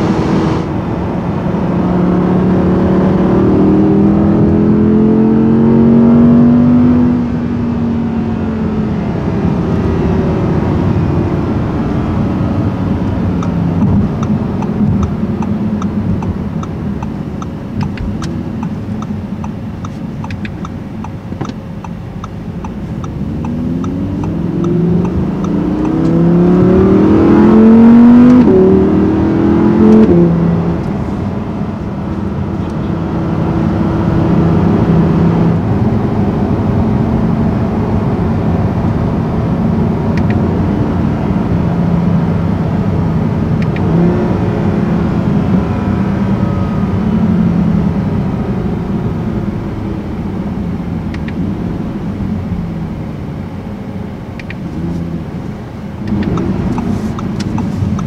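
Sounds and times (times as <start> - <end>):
car engine accelerating and shifting: 0.0 - 58.0.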